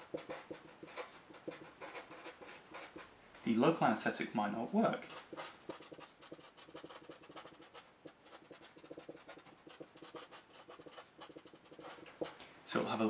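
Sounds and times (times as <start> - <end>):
marker writing on paper: 0.0 - 3.1, 5.0 - 12.4.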